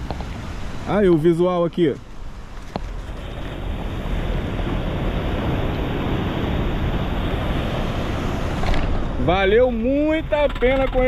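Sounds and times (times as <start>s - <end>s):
wind rushing over microphone: 2.1s - 11.0s.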